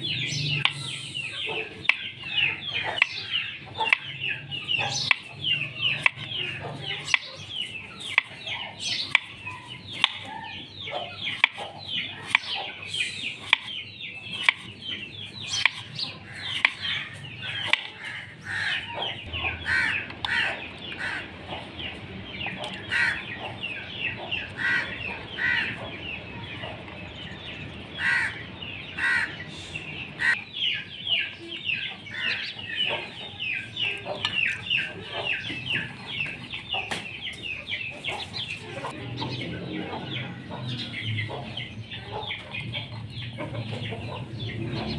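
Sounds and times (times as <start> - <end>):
chickens calling: 0.0 - 44.9.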